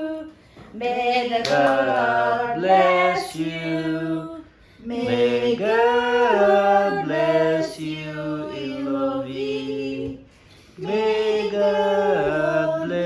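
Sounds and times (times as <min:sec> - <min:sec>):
people singing unaccompanied: 0:00.0 - 0:13.0.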